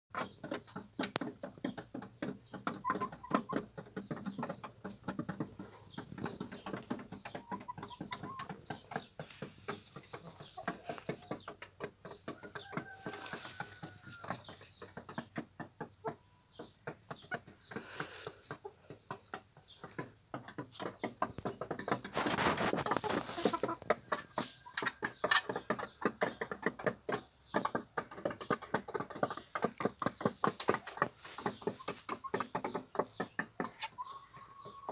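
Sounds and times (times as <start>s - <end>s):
hens pecking and scratching: 0.1s - 34.9s.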